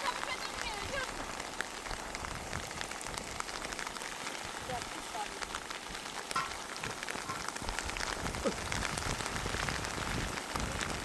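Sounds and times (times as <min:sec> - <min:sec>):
raindrops striking close by: 0:00.0 - 0:11.0.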